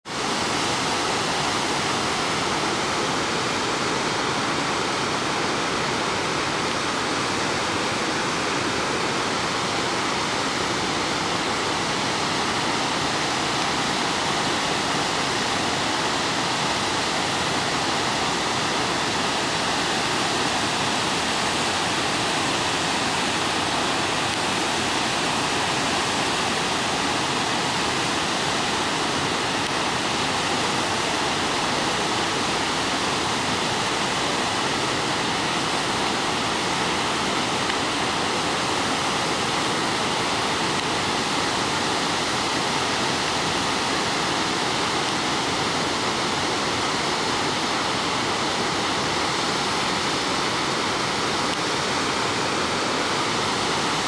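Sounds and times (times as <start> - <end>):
waterfalls rushing: 0.0 - 54.0.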